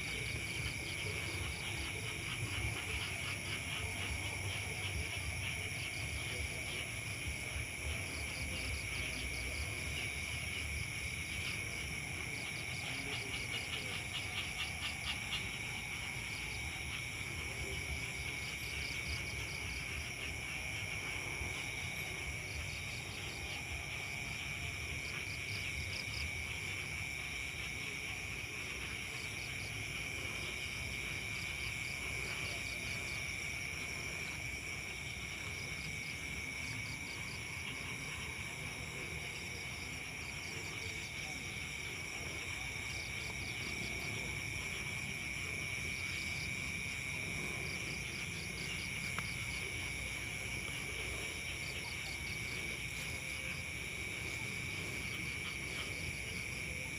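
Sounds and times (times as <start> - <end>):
night insects trilling: 0.0 - 56.9.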